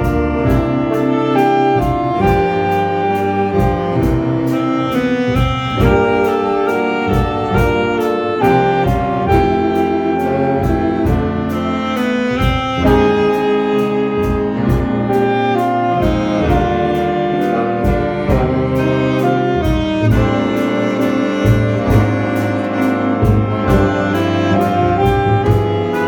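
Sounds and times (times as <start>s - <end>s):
jazz band playing slow tune: 0.0s - 26.0s.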